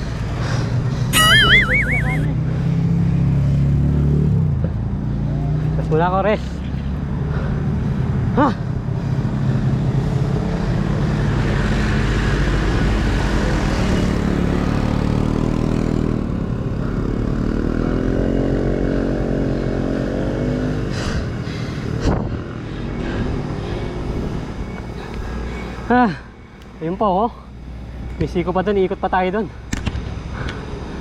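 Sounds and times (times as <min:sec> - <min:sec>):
low traffic rumble: 0:00.0 - 0:31.0.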